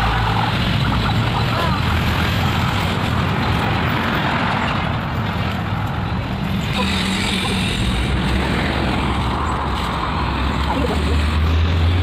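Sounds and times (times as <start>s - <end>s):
engine hum: 0.0s - 12.0s
road traffic passing: 0.0s - 12.0s.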